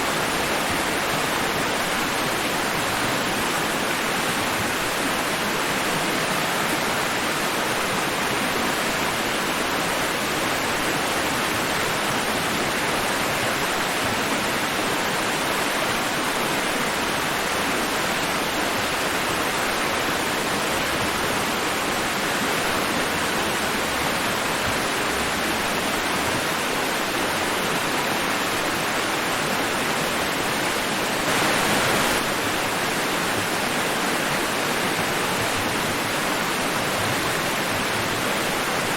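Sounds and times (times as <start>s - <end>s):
rushing ocean waves white noise: 0.0s - 38.9s.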